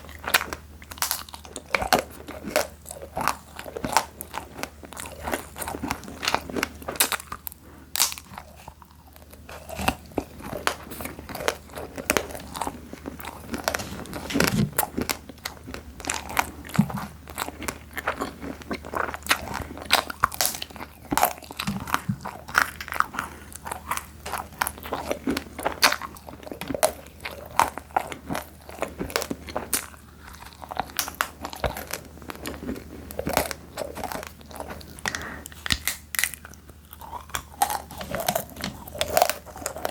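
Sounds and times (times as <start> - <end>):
person chewing crunchy snacks: 0.0 - 39.9.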